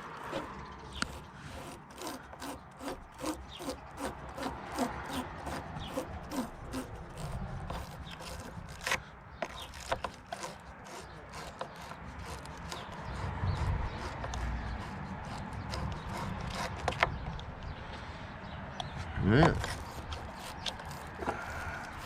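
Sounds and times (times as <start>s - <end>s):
brush scraping battery post: 0.0s - 17.5s, 19.4s - 22.0s.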